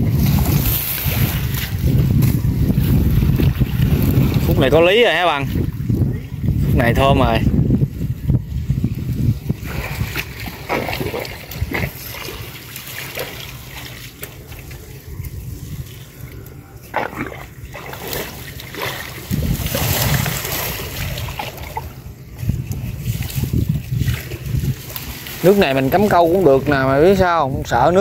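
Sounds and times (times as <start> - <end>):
water splashing from wading: 0.0 - 7.4, 9.3 - 27.2.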